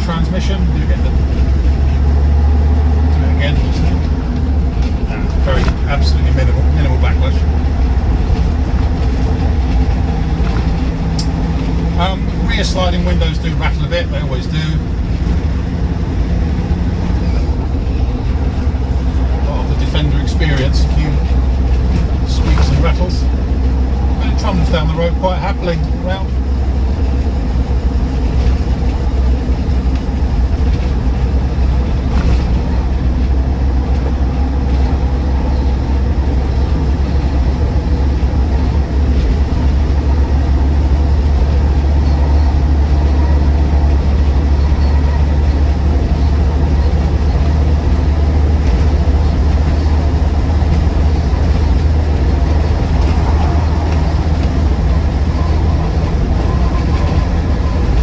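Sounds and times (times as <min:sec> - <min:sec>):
diesel engine droning in car cabin: 0:00.0 - 0:58.0
tyres on road: 0:00.0 - 0:58.0.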